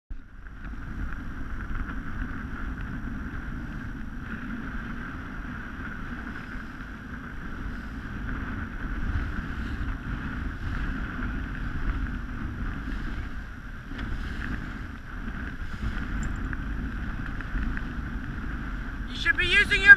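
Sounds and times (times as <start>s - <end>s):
wind buffeting microphone: 0.1s - 19.9s.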